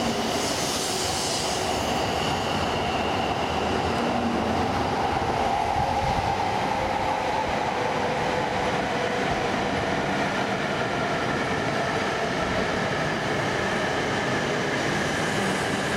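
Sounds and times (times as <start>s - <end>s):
train running noise: 0.0s - 15.9s.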